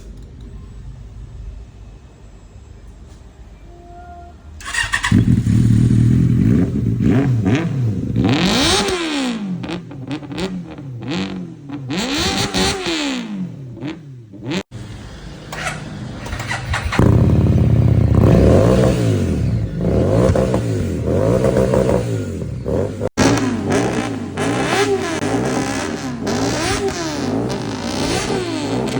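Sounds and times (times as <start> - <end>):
motorcycle engines revving: 4.6 - 28.9.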